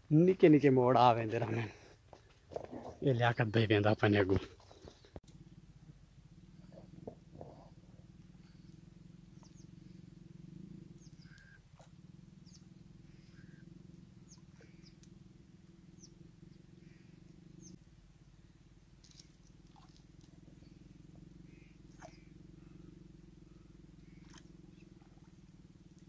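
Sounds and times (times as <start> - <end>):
small birds chirping: 3.0 - 26.0
faint pulsing low drone: 4.8 - 26.0.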